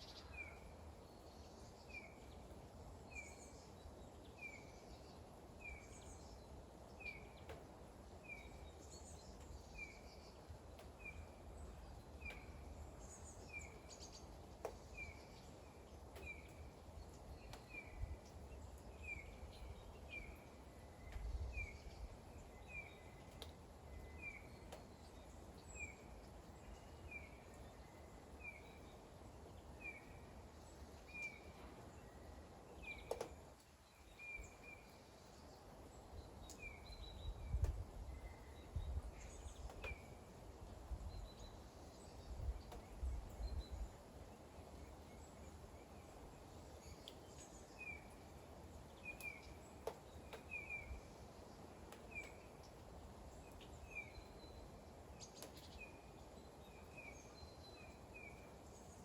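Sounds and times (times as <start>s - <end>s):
light rain with drips: 0.0s - 59.0s.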